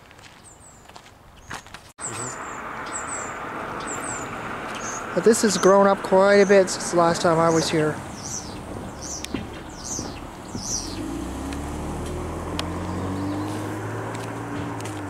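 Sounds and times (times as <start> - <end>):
songbirds chirping: 0.0 - 15.0
low engine drone: 2.0 - 15.0.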